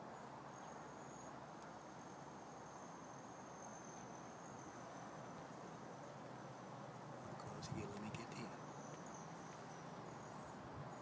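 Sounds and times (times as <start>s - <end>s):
faint outdoor background hiss: 0.0s - 11.0s.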